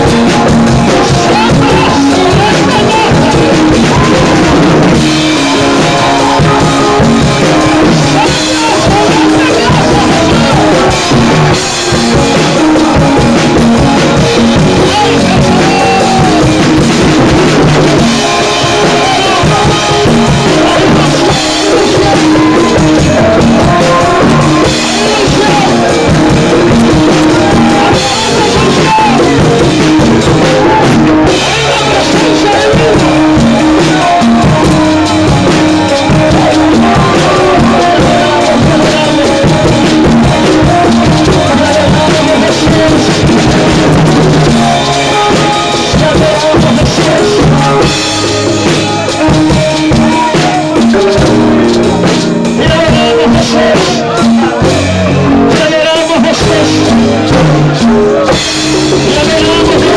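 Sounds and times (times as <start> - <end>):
band playing loud music: 0.0 - 59.9
drum kit with cymbals: 0.0 - 59.9
people singing: 0.0 - 59.9.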